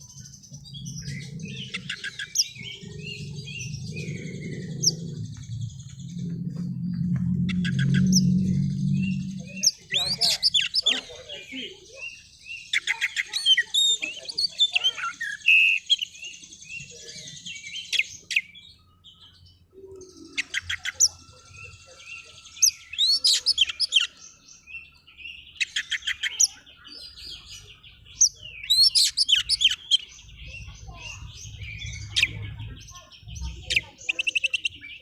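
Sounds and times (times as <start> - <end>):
bird singing chirps and trills: 0.0 - 35.0.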